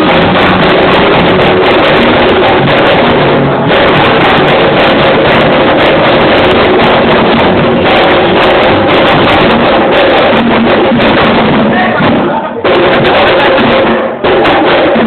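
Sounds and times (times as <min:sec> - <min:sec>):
loud live band music: 0:00.0 - 0:15.0.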